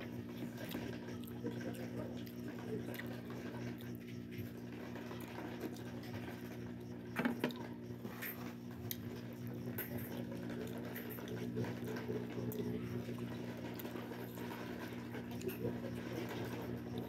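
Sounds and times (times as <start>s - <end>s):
person chewing food: 0.3s - 17.0s.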